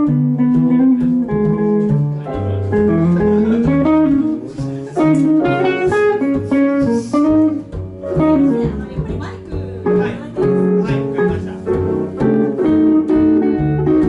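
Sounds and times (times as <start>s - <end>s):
bass line: 0.0s - 14.0s
guitar playing jazz: 0.0s - 14.0s.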